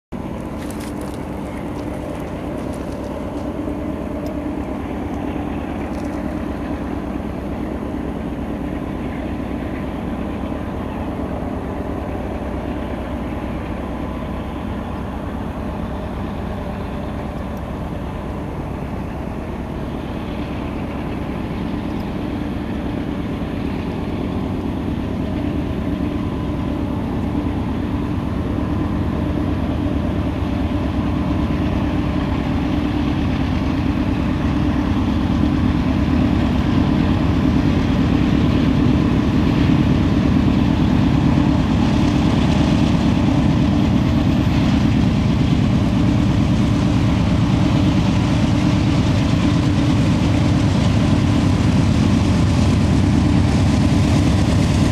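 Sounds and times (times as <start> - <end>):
diesel locomotive engine drone: 0.0 - 54.9.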